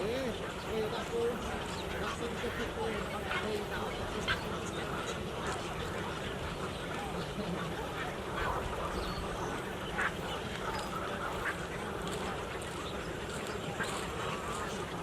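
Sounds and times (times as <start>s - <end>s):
flock of birds honking and quacking: 0.0s - 15.0s.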